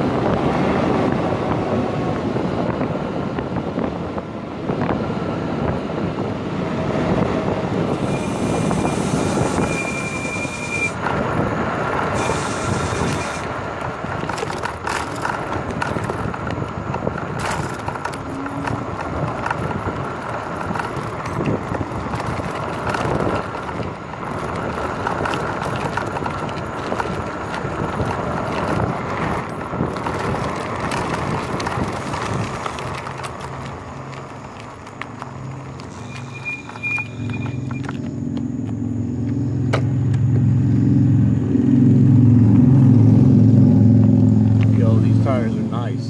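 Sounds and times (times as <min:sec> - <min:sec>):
scooter tire and road rumble: 0:00.0 - 0:46.0.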